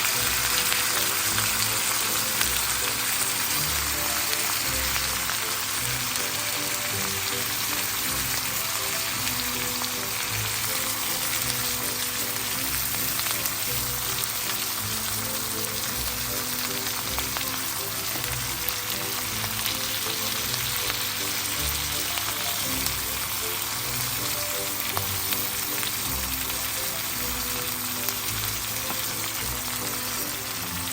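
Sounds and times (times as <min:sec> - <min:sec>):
food sizzling in a pan: 0:00.0 - 0:30.9
soft background music: 0:00.0 - 0:30.9.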